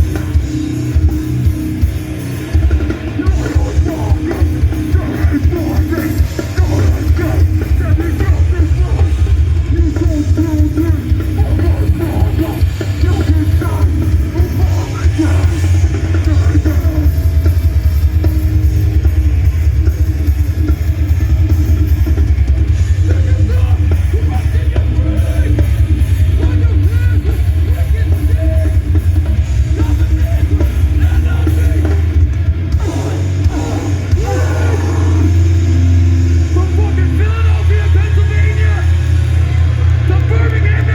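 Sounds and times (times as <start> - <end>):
hardcore band playing live: 0.0 - 40.9.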